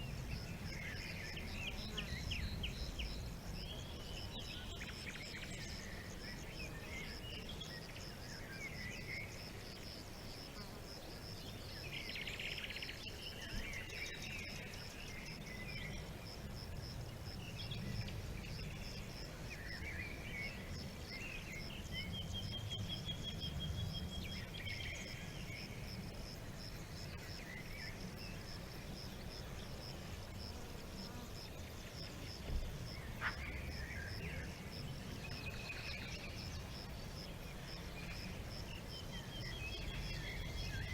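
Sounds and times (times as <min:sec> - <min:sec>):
insect chirping: 0:00.0 - 0:40.9.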